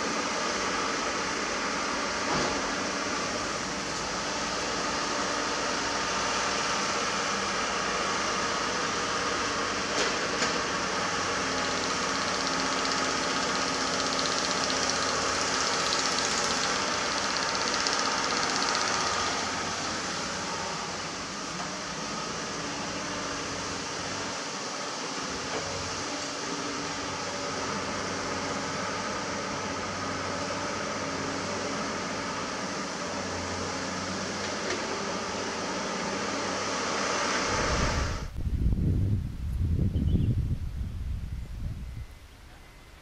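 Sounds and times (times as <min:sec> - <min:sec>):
excavator diesel engine running: 0:00.0 - 0:38.4.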